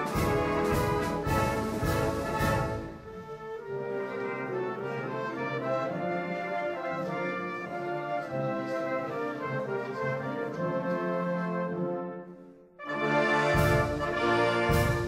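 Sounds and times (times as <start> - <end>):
orchestral music with brass: 0.0 - 15.0.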